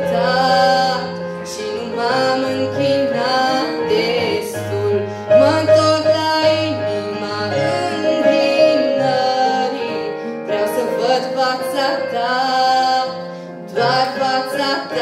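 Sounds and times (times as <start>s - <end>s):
digital piano chords: 0.0s - 15.0s
woman singing into a microphone: 0.0s - 15.0s.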